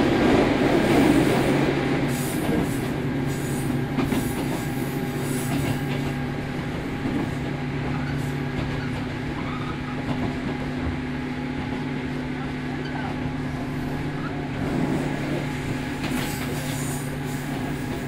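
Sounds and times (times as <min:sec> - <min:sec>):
train motor and gear hum: 0:00.0 - 0:18.0.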